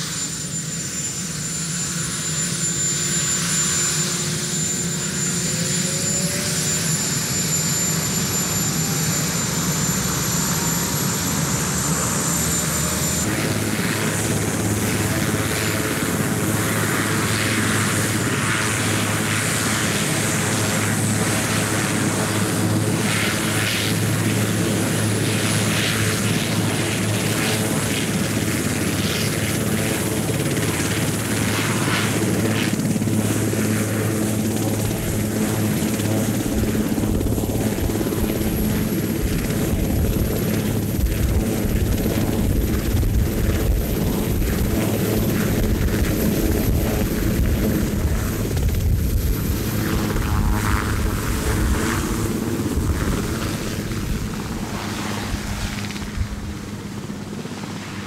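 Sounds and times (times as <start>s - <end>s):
helicopter rotor drone: 0.0s - 58.0s
helicopter turbine whine: 0.0s - 58.0s.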